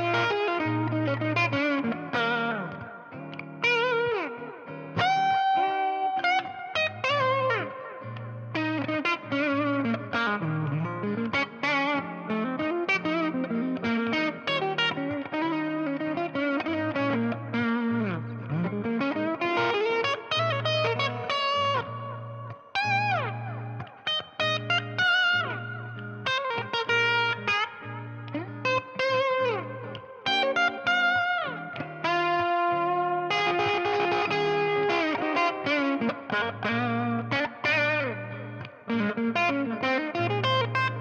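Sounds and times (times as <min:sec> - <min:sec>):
distorted electric guitar lead: 0:00.0 - 0:41.0.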